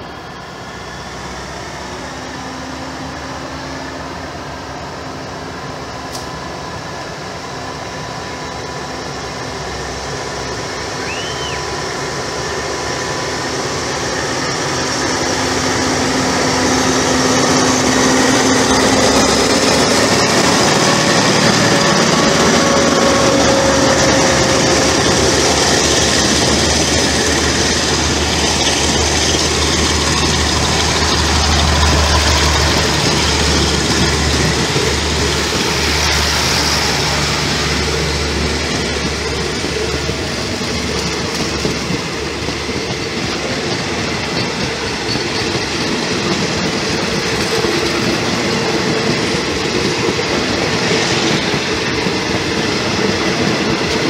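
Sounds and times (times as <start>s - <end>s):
locomotive engine: 0.0s - 54.0s
train coaches rolling on rails: 0.0s - 54.0s.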